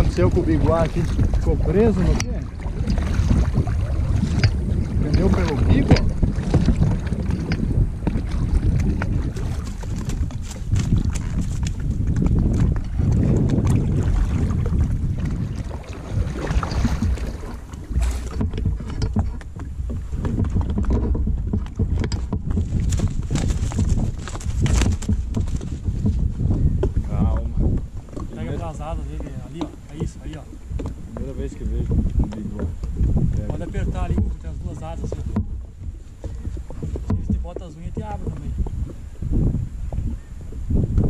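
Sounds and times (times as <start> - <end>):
paddle knocks and splashes: 0.0 - 41.0
wind rumble on microphone: 0.0 - 41.0.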